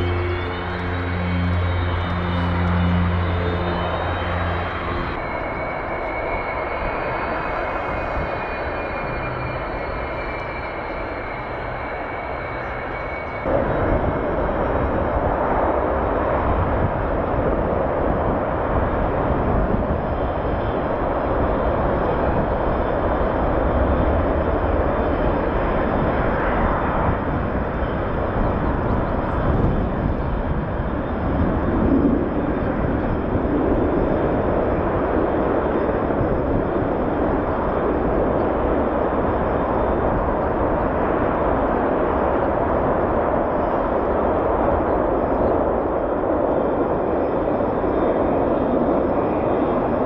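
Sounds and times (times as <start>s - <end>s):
jet fighters taking off: 0.0s - 50.0s.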